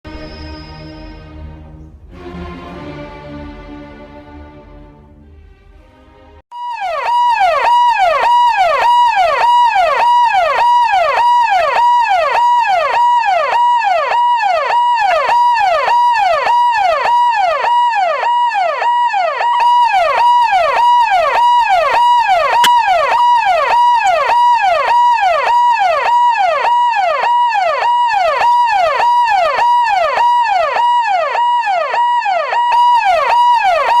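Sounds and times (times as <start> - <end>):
police siren yelping: 6.5 - 34.0.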